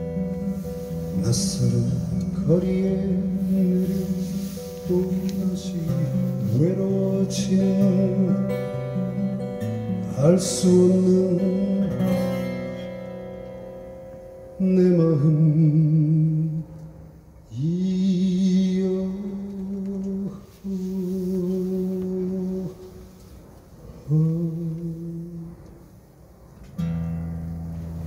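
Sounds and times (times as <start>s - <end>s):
acoustic guitar: 0.0s - 28.0s.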